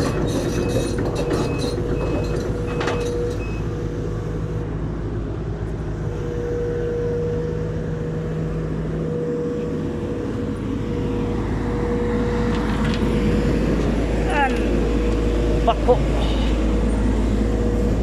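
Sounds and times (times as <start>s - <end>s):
constant whine: 0.0s - 18.0s
diesel engine running: 0.0s - 18.0s.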